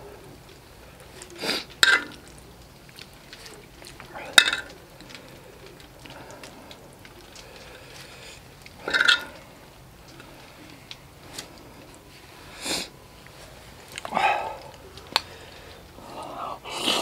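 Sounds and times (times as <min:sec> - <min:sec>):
noodles squishing: 0:00.0 - 0:17.0.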